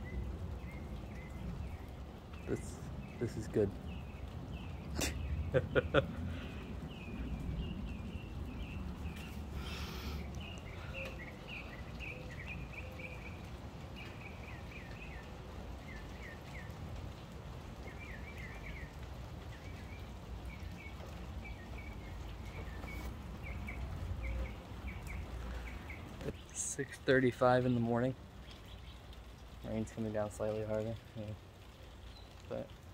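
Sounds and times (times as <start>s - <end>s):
birds chirping: 0.0s - 32.9s
light rain falling: 0.0s - 32.9s.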